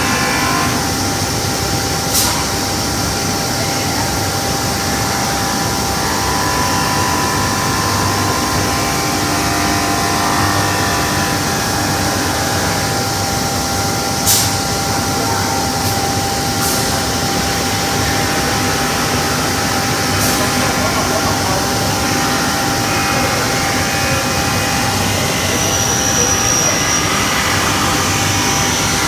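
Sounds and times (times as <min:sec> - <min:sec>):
cutting machine running: 0:00.0 - 0:29.0.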